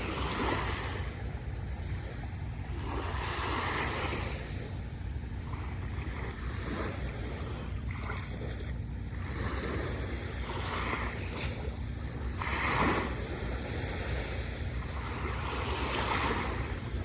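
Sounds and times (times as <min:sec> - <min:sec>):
low rumble of surf: 0:00.0 - 0:17.0
small waves washing up beach: 0:00.0 - 0:17.0
wind on microphone: 0:00.0 - 0:17.0.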